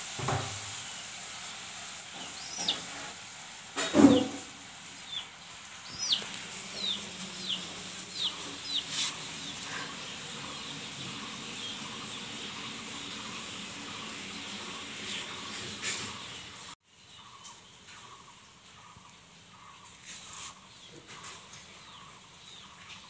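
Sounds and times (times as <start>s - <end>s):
background hiss: 0.0s - 23.0s
small bird chirping: 2.0s - 2.9s, 5.0s - 23.0s.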